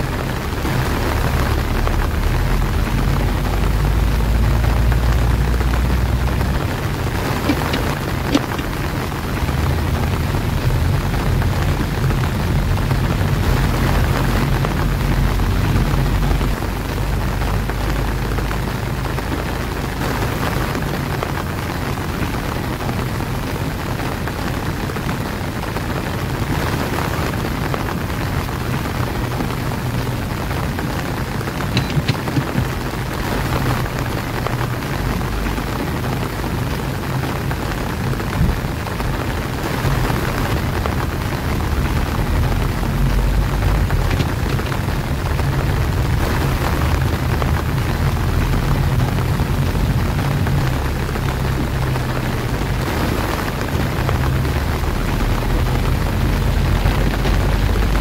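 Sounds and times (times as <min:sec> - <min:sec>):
car driving on wet road: 0:00.0 - 0:58.0
heavy rain on car roof: 0:00.0 - 0:58.0.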